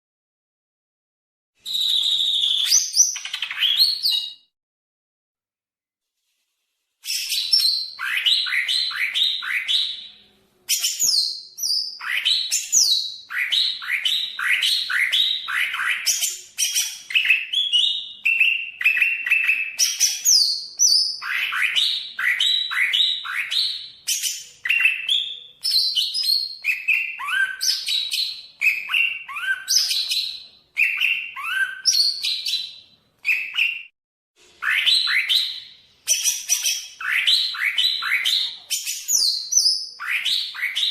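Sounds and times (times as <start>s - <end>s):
bird singing whistled notes: 1.6s - 4.5s, 7.0s - 33.9s, 34.6s - 40.9s.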